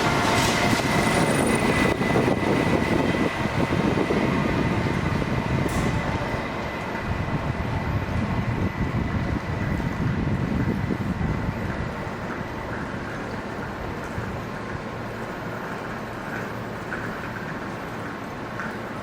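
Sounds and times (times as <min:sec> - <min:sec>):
electric train running past: 0:00.0 - 0:19.0.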